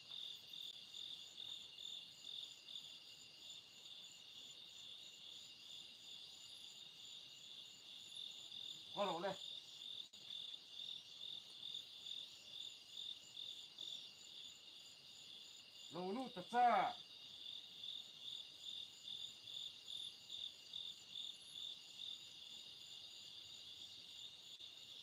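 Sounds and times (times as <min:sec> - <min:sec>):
night insects trilling: 0:00.0 - 0:25.0.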